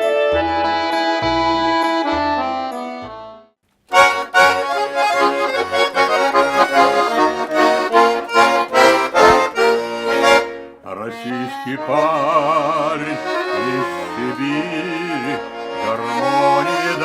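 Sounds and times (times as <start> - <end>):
accordion playing: 0.0 - 17.0.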